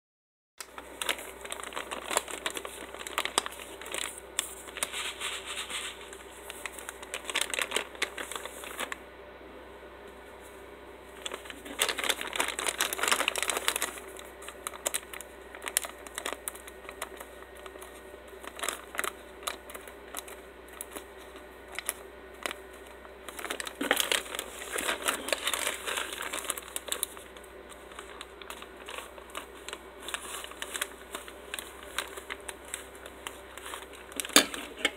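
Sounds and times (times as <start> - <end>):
plastic mailer bag crinkling: 0.6 - 9.0, 11.1 - 34.9.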